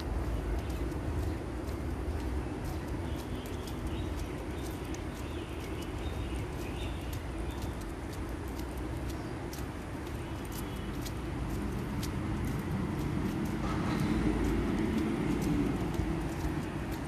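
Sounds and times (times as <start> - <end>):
footsteps on paved path: 0.0 - 17.0
steady low rumble: 0.0 - 17.0.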